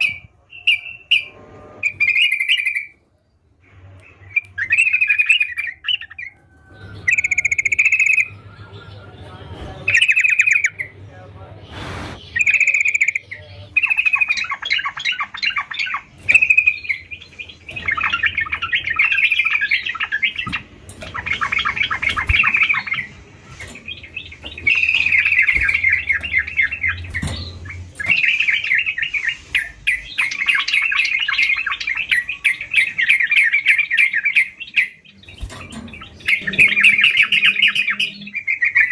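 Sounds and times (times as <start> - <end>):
bulbul singing: 0.0 - 3.0, 3.6 - 38.9.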